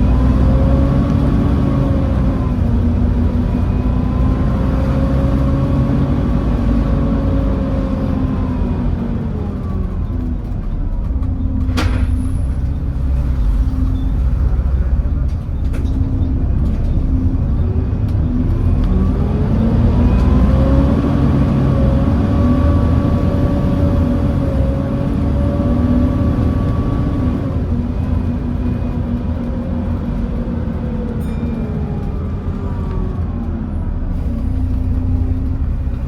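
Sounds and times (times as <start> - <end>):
bus diesel engine whining: 0.0 - 36.0.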